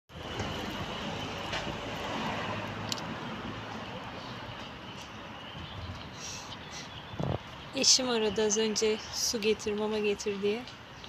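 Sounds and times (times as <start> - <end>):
outdoor background rumble: 0.1 - 11.0.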